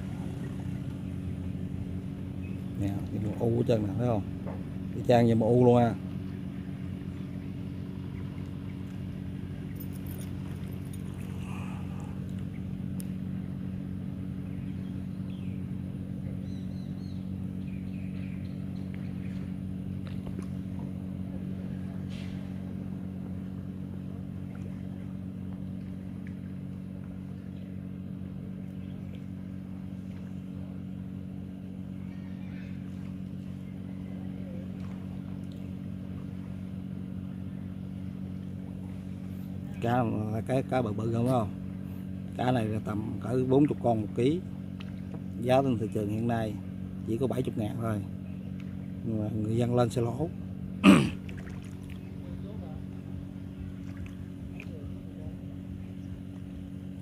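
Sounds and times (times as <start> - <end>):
small engine running steadily: 0.0 - 57.0.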